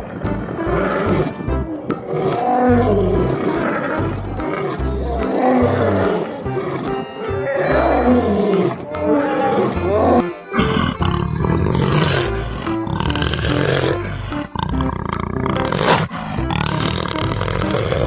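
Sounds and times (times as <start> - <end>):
big cat roaring: 2.0 - 18.0.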